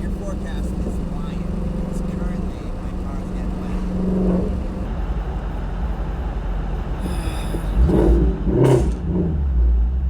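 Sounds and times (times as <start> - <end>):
exhaust pops and crackles: 0.0 - 9.4
car exhaust rumbling: 0.0 - 10.0.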